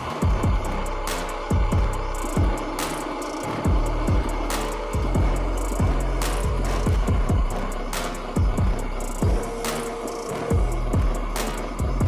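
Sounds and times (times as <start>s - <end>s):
electronic music with a beat: 0.0s - 12.0s.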